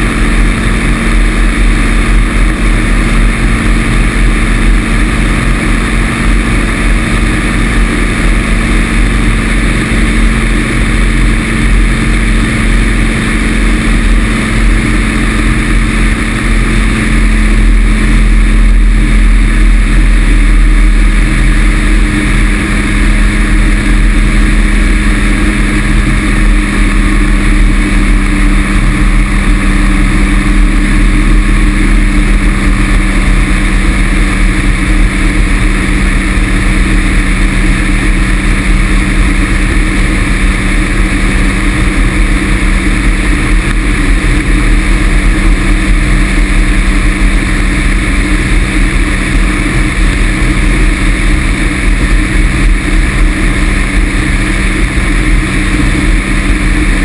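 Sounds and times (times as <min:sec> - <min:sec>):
small aircraft engine buzzing: 0:00.0 - 0:57.0.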